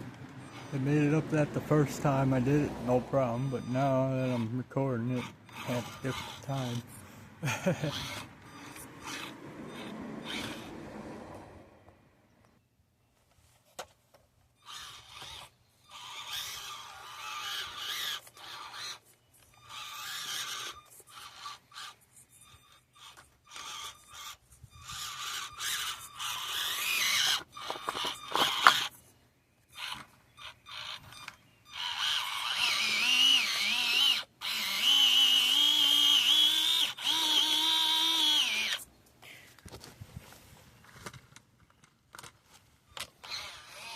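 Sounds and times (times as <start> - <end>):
small electric motor whining: 0.0 - 11.6, 14.5 - 29.0, 29.7 - 38.9, 42.8 - 43.9.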